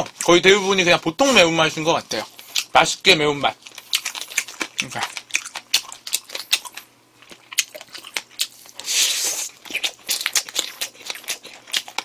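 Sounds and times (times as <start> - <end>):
crunchy chewing with wet clicks: 1.7 - 12.0.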